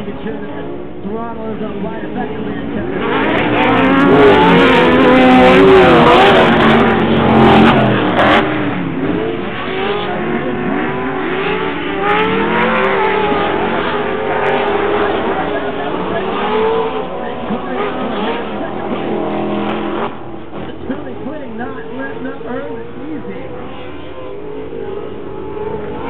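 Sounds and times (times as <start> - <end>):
race truck engines revving: 0.0 - 26.0.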